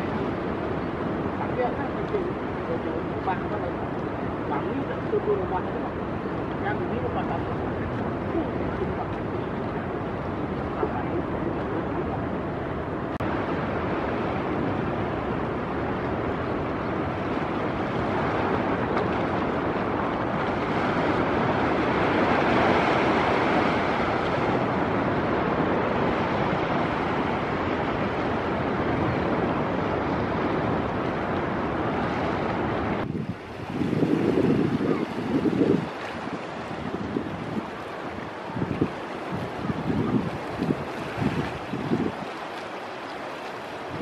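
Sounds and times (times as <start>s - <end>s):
ocean surf breaking: 0.0s - 44.0s.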